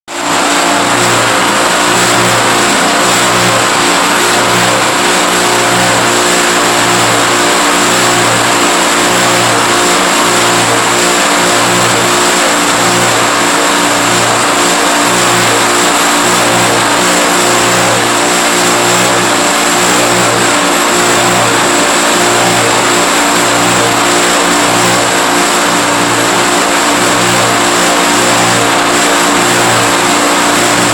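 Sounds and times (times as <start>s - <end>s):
clothes dryer whirring: 0.1s - 30.9s.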